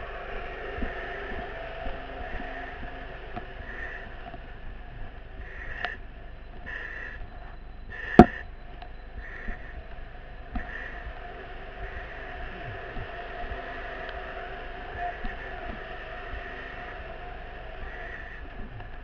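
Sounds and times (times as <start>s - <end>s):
steady engine hum: 0.0s - 19.0s.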